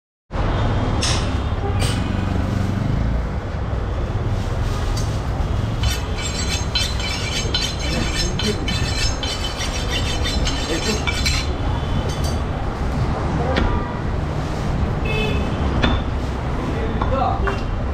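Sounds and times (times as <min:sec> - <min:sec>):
busy street traffic rumble: 0:00.3 - 0:17.9.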